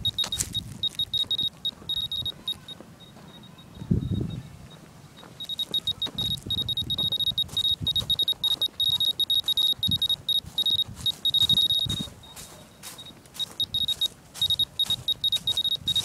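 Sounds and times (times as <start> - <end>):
dosimeter beeping: 0.0 - 4.8, 5.4 - 16.0.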